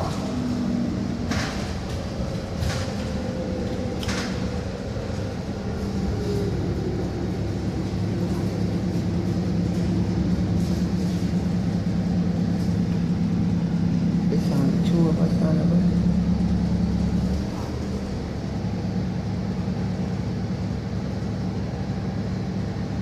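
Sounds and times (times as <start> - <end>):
bus engine humming: 0.0 - 23.0.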